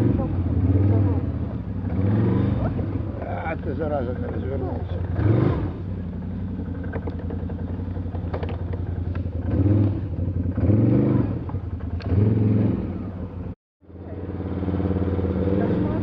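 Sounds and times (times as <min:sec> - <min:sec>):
small engine running and revving: 0:00.0 - 0:16.0.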